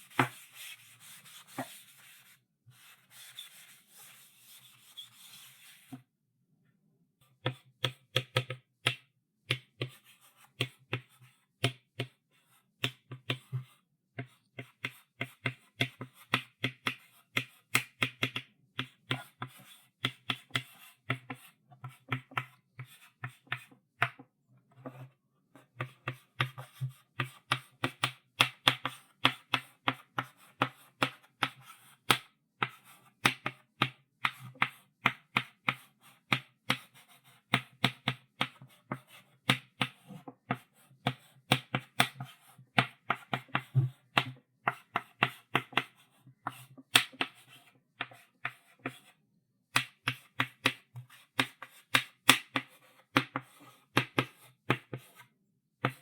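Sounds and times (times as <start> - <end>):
chalk writing on a chalkboard: 0.0 - 6.0, 9.5 - 56.0.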